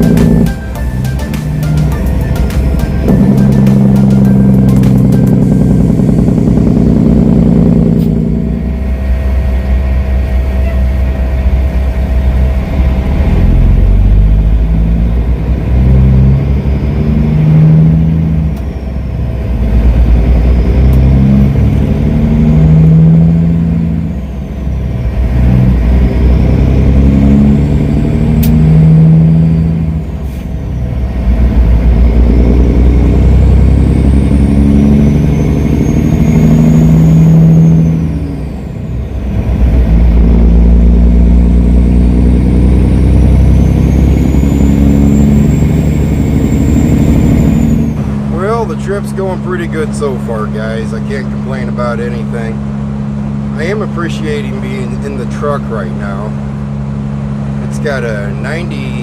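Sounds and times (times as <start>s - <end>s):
diesel truck engine accelerating: 0.0s - 59.0s.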